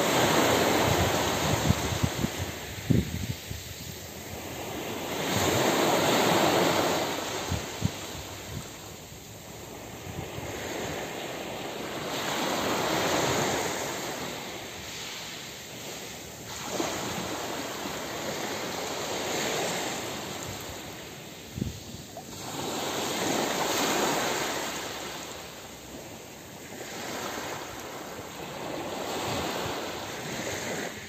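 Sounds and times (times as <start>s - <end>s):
small waves breaking on shore: 0.0s - 31.0s.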